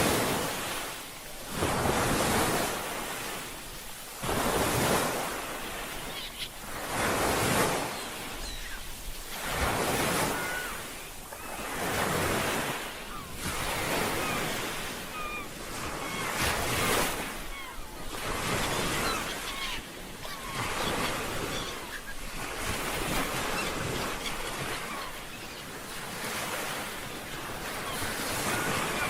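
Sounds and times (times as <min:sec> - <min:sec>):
ocean waves washing ashore: 0:00.0 - 0:29.0
wind: 0:00.0 - 0:29.0.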